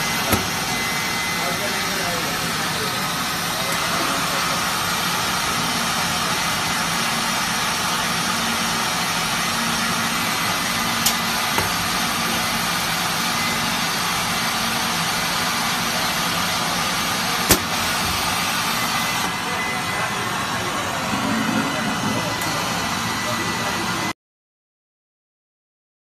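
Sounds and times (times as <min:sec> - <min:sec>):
engraving machine fan hum: 0:00.0 - 0:24.1.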